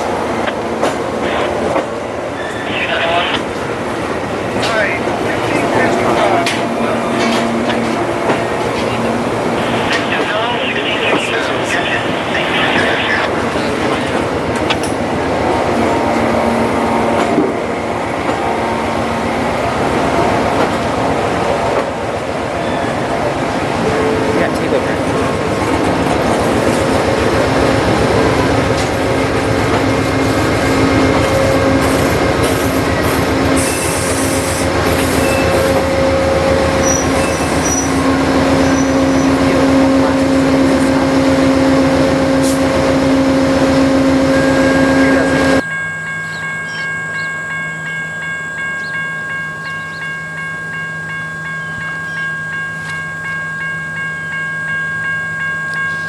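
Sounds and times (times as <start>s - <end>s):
diesel locomotive rumbling: 0.0s - 56.0s.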